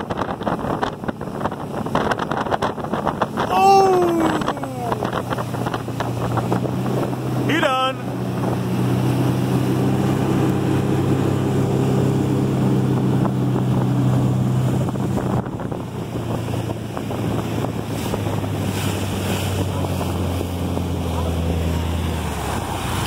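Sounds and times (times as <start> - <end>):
boat engine running: 0.0 - 23.0
wake churning: 0.0 - 23.0
wind buffeting microphone: 0.0 - 23.0.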